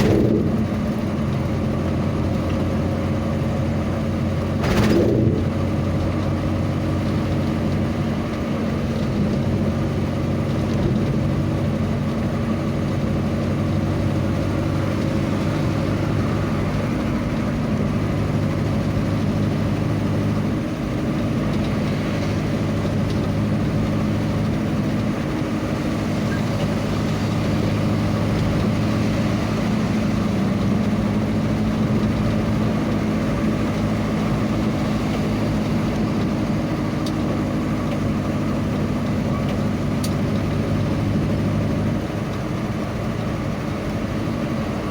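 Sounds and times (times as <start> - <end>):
vehicle engine humming: 0.0 - 44.9.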